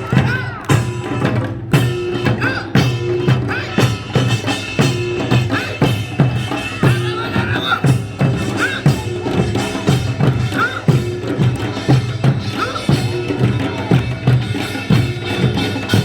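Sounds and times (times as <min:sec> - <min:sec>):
folk percussion drum strokes: 0:00.0 - 0:16.0.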